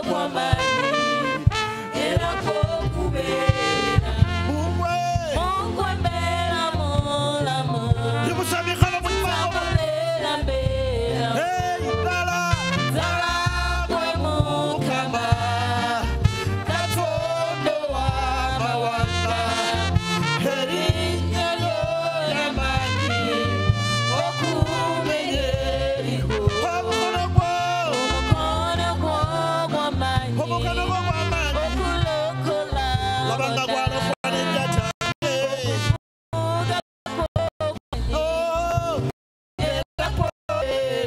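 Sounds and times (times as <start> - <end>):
pulsing bass line: 0.0 - 40.3
singers on microphones: 0.0 - 41.0.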